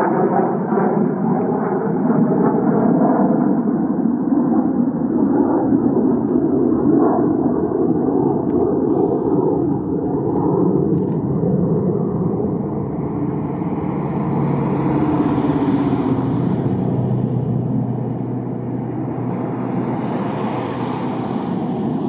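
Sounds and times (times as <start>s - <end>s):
jet roar overhead: 0.0s - 22.0s.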